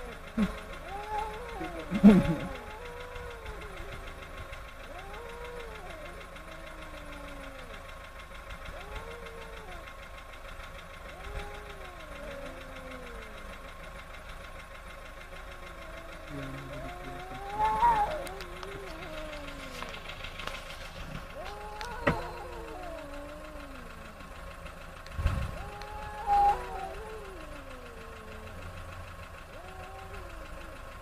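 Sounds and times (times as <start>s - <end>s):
car engine idling: 0.0s - 31.0s
cats yowling: 0.0s - 31.0s.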